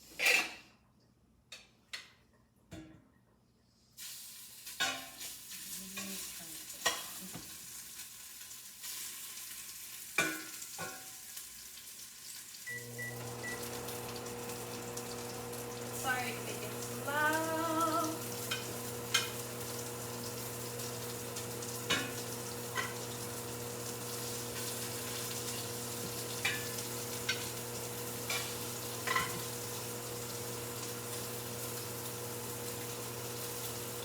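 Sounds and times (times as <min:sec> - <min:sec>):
beef sizzling in hot oil: 0:04.0 - 0:34.0.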